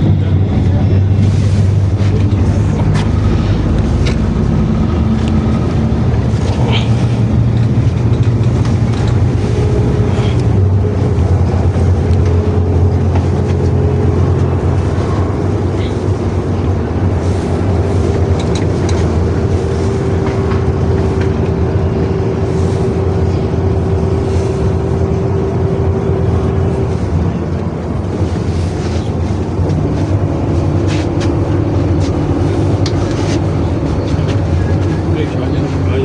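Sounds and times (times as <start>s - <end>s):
bus engine drone: 0.0s - 36.0s
road noise: 0.0s - 36.0s
whining tone: 0.0s - 36.0s.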